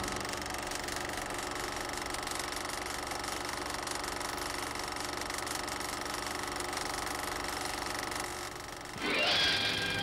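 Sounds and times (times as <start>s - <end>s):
film projector mechanical rattle: 0.0s - 9.0s.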